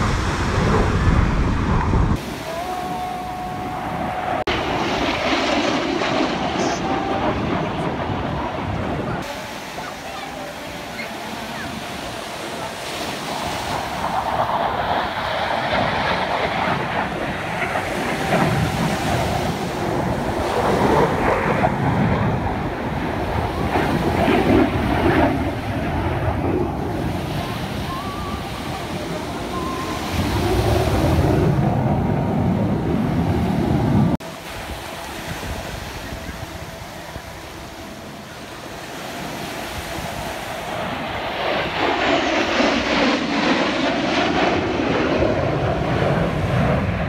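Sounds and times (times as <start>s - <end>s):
jet aircraft engines rumbling: 0.0s - 47.0s
wind buffeting microphone: 0.0s - 47.0s.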